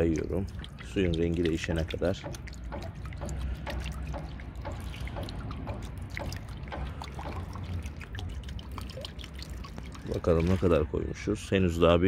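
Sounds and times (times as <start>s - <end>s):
liquid dripping into water: 0.0s - 10.9s.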